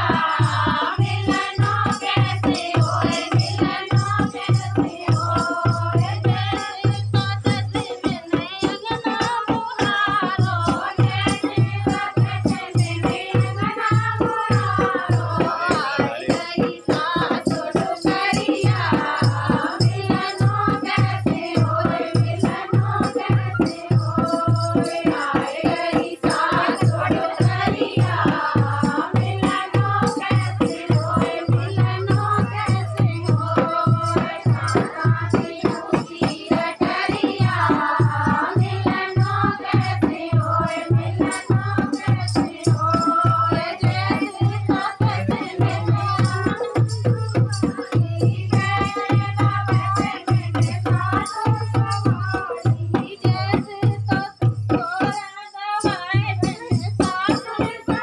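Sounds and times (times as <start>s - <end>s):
steady drum beat: 0.0s - 58.0s.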